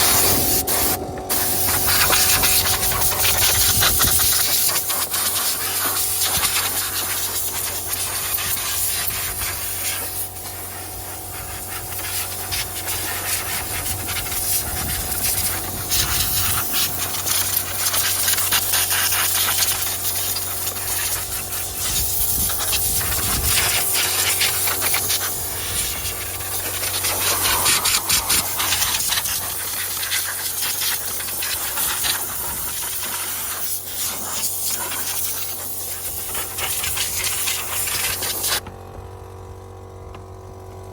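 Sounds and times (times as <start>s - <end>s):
low machine hum: 0.0s - 34.6s, 35.6s - 40.9s
steam jet hissing: 0.0s - 38.6s.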